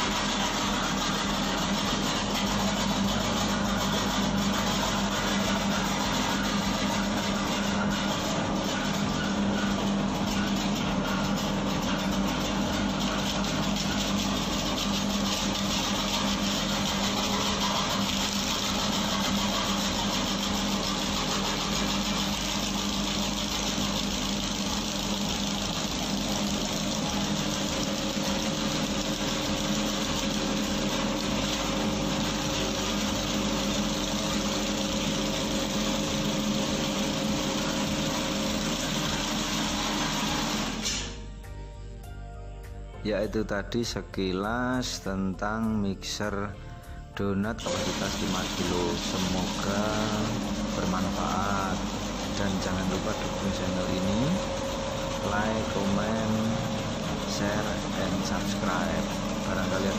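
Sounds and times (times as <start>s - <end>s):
dough mixer motor humming: 0.0s - 41.2s, 47.6s - 59.9s.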